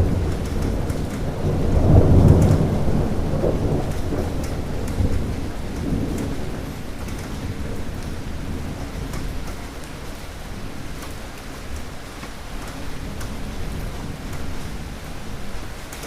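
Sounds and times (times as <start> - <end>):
rain hissing: 0.0 - 16.0
thunder rumbling: 0.0 - 16.0.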